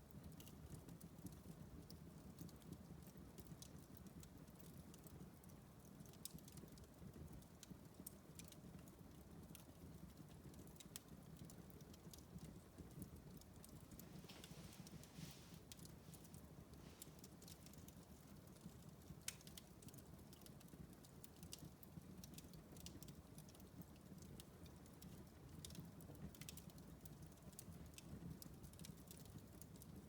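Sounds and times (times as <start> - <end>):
wood fire crackling: 0.1 - 30.0.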